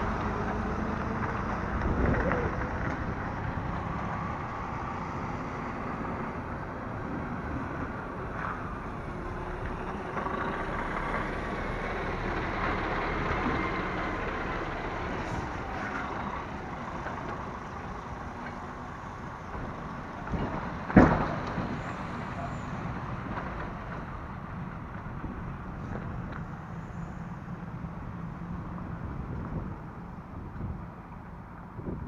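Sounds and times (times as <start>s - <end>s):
lorry diesel engine: 0.0s - 32.0s.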